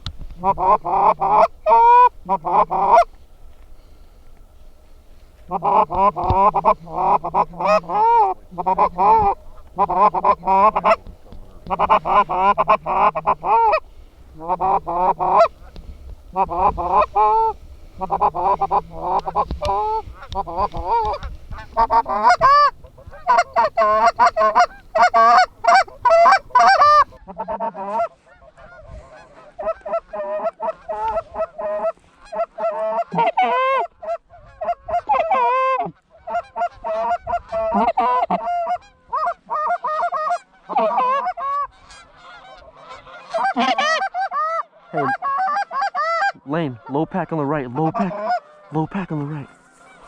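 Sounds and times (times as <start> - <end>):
geese honking and clucking: 0.0 - 50.0.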